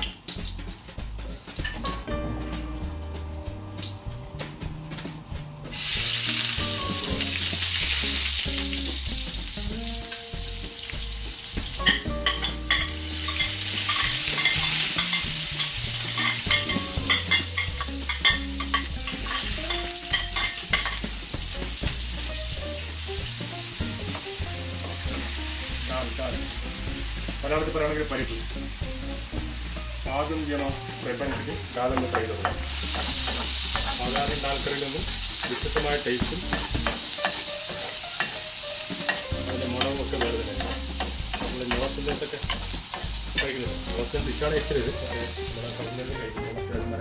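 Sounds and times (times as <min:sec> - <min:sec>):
oil sizzling in frying pan: 0:00.0 - 0:47.0.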